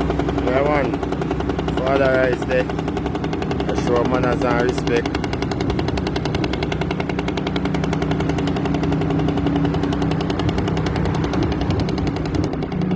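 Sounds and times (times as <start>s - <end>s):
dump truck diesel engine: 0.0s - 12.9s.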